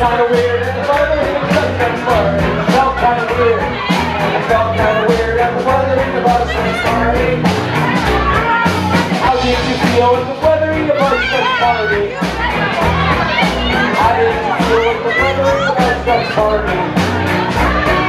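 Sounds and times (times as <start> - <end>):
drums keeping a steady beat: 0.0 - 18.0
electric bass: 0.0 - 18.0
person singing: 0.0 - 18.0.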